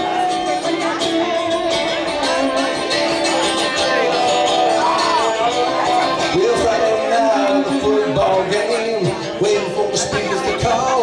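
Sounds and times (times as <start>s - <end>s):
electric guitar: 0.0s - 11.0s
strummed acoustic guitar: 0.0s - 11.0s.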